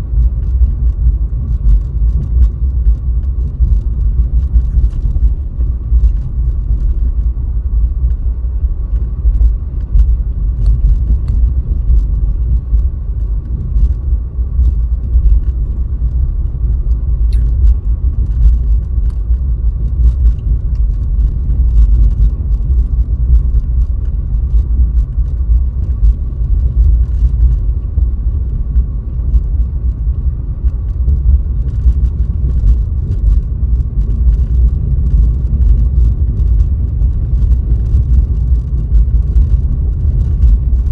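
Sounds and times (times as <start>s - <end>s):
road and engine rumble: 0.0s - 40.9s.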